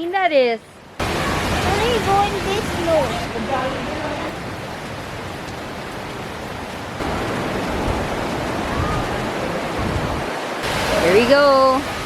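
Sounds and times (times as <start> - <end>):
waterfall rushing: 0.8 - 12.0.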